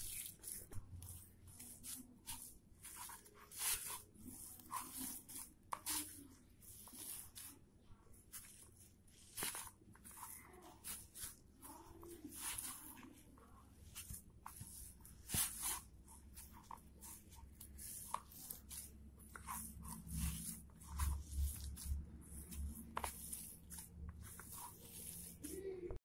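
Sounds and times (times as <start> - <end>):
hands kneading crumbly cheese: 0.0 - 26.0.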